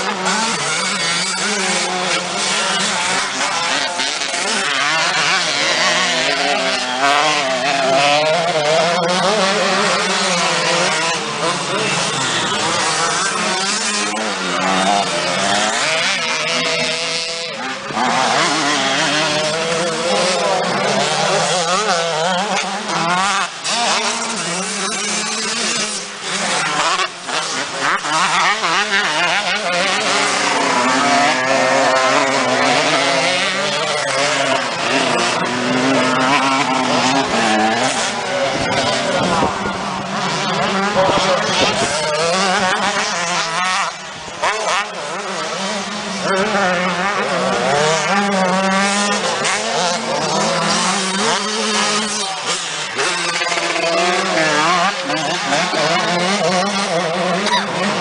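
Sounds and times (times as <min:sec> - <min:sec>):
motorcycles racing and revving: 0:00.0 - 0:58.0.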